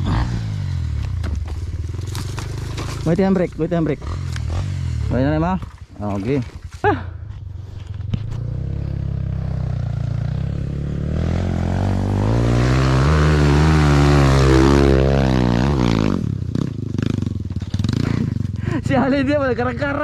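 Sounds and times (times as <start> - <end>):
dirt bike engine revving: 0.0 - 6.8, 7.5 - 20.0.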